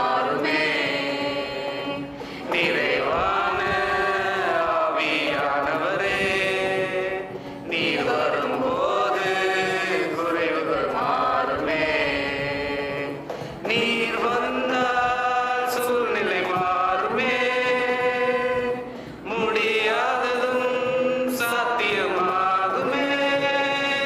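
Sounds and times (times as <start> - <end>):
choir singing worship song: 0.0 - 24.0.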